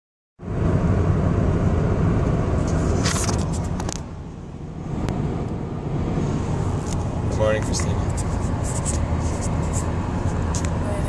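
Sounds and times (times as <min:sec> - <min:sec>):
car cabin road noise: 0:00.4 - 0:11.0.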